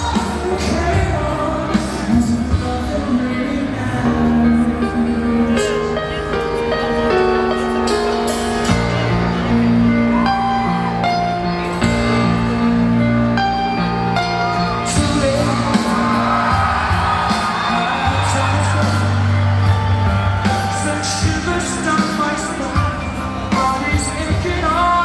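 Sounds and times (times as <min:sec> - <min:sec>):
held keyboard chords: 0:00.0 - 0:25.0
pop-rock music with singing: 0:00.0 - 0:25.0.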